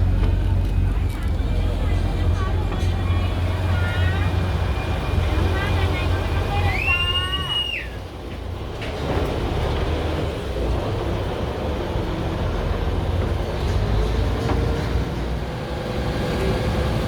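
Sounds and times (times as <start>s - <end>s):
low rumble of moving vehicle: 0.0s - 17.0s.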